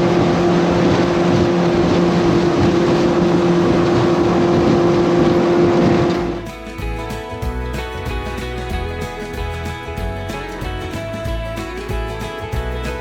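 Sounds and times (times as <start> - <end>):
loud rushing noise: 0.0 - 13.0
motorboat engine running: 0.0 - 13.0.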